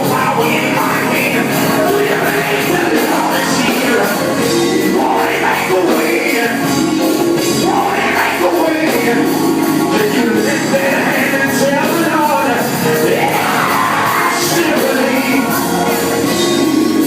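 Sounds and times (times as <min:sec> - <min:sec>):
band playing: 0:00.0 - 0:17.0
drums and cymbals beat: 0:00.0 - 0:17.0
gospel voices singing: 0:00.0 - 0:17.0.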